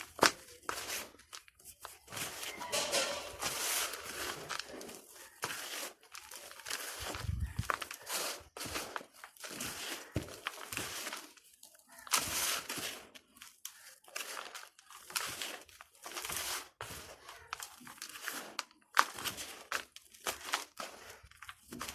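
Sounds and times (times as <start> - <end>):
dry dirt balls crunching: 0.0 - 21.9.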